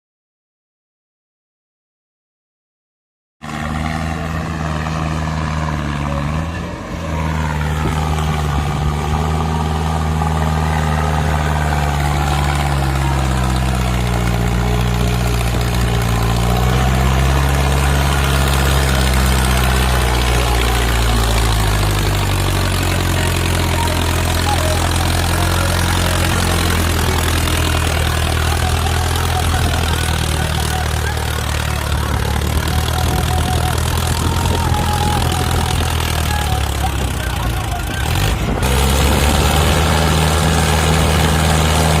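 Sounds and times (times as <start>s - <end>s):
heavy diesel engine running: 3.4s - 42.0s.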